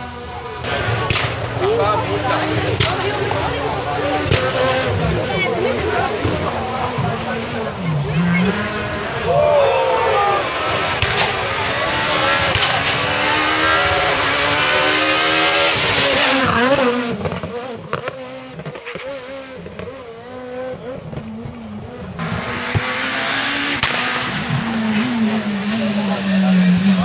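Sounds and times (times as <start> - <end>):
rally car engines at full throttle: 0.0 - 27.0.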